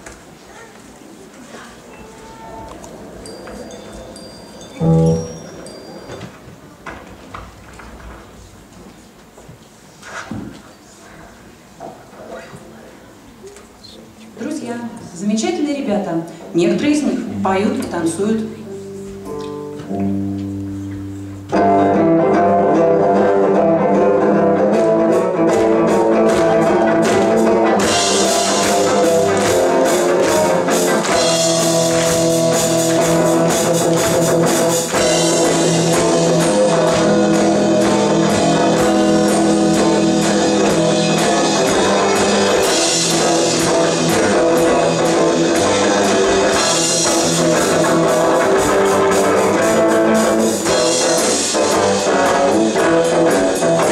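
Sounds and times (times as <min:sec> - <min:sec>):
band with guitar and drums: 0:02.0 - 0:09.4, 0:17.3 - 0:53.9.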